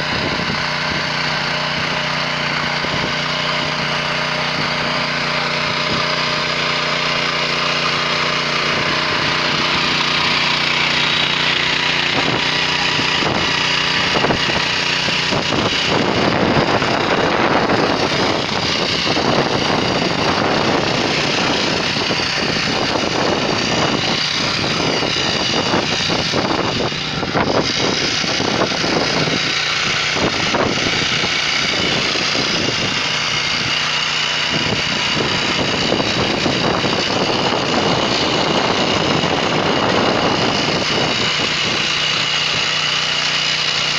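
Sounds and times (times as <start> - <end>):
tiller cutters clattering in soil: 0.0 - 43.9
tractor engine running: 0.0 - 43.9.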